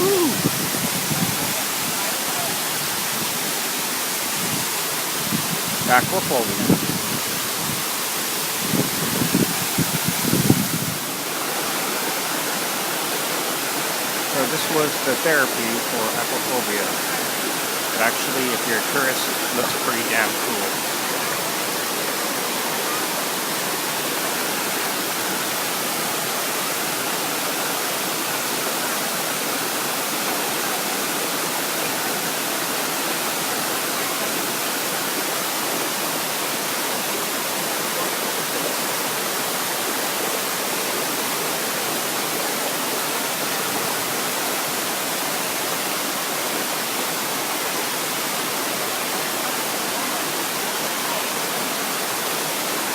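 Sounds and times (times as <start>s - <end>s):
waterfall rushing into pool: 0.0s - 52.9s.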